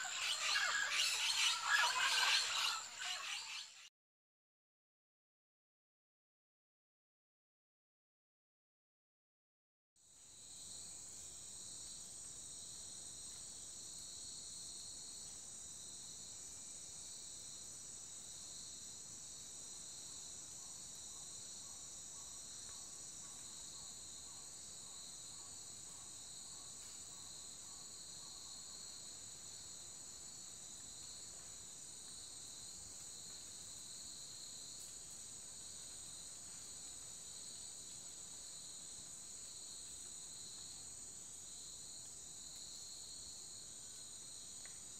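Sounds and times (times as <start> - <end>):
insects chorus: 0.0 - 3.9, 10.2 - 44.9.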